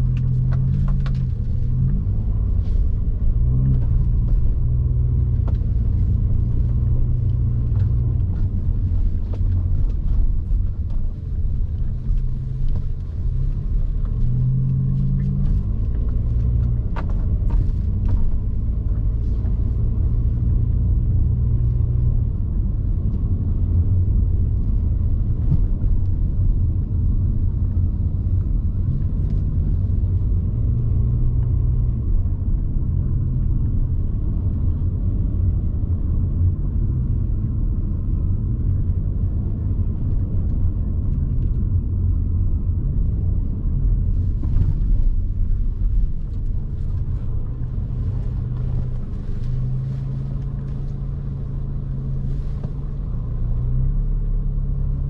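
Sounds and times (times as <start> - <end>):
car engine rumble: 0.0 - 55.0
road noise inside car: 0.0 - 55.0.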